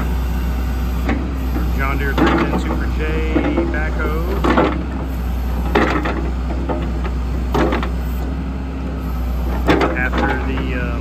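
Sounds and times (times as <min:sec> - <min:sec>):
backhoe diesel engine running: 0:00.0 - 0:11.0
short metallic clunks: 0:01.0 - 0:08.3, 0:09.4 - 0:11.0.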